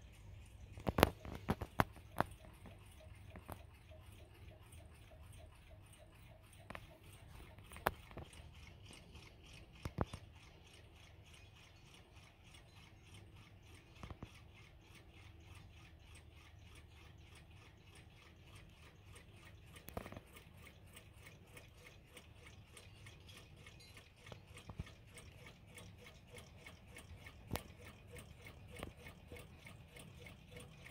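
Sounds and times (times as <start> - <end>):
clocks ticking: 0.0 - 30.9.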